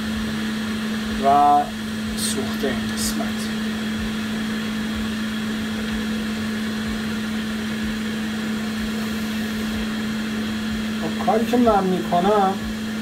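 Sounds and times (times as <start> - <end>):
electrical equipment hum: 0.0 - 13.0
fan-like hiss: 0.0 - 13.0.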